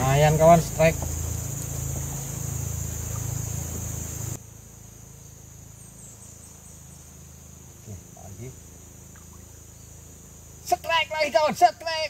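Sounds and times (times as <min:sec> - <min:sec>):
insects droning: 0:00.0 - 0:12.0
low steady hum: 0:00.0 - 0:12.0.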